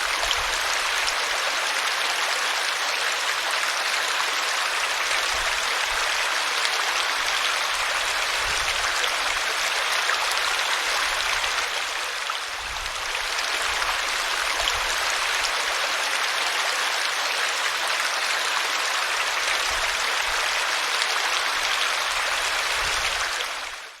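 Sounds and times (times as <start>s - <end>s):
small waterfall rushing: 0.0s - 24.0s.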